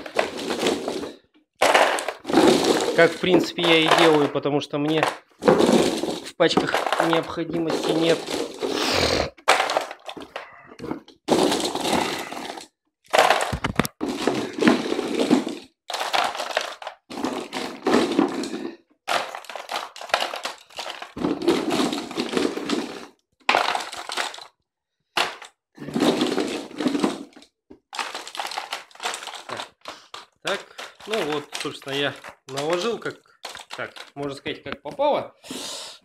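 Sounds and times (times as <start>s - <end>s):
shotgun shells clattering: 0.0s - 8.6s, 9.4s - 10.4s, 11.6s - 24.5s, 25.2s - 34.4s.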